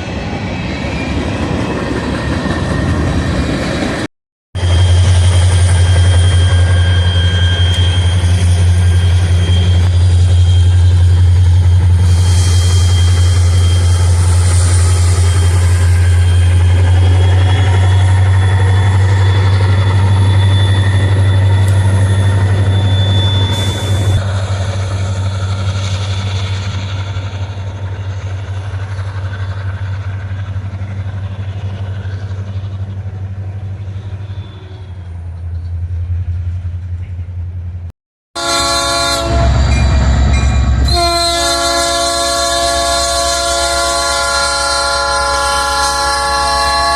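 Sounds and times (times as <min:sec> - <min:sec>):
train engine drone: 0:00.0 - 0:46.9.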